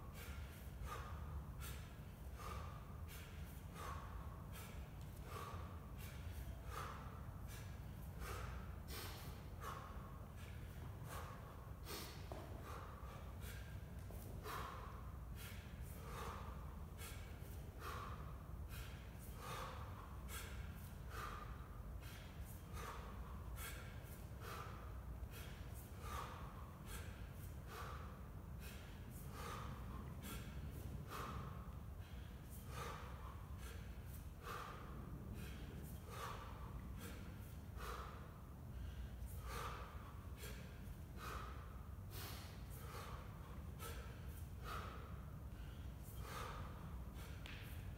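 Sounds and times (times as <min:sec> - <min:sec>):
man breathing hard: 0:00.0 - 0:47.9.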